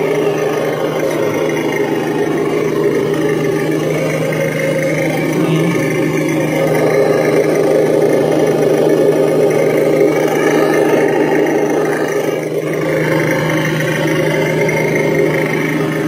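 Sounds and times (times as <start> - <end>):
simulated engine idling: 0.0 - 16.0.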